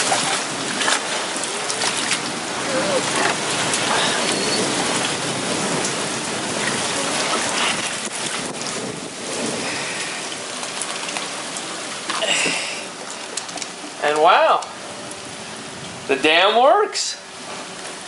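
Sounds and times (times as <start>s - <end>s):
heavy rain falling: 0.0s - 18.0s
spatters of raindrops: 0.0s - 18.0s.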